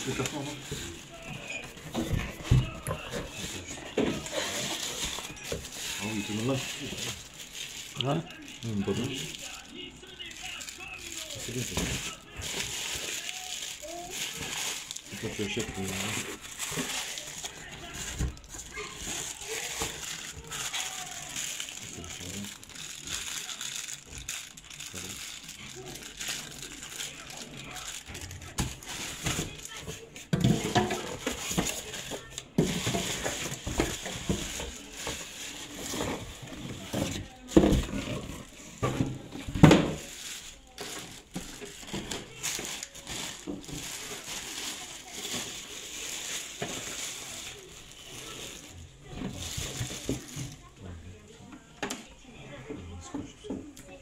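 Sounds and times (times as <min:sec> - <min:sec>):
plastic bags crinkling: 0:00.0 - 0:50.8.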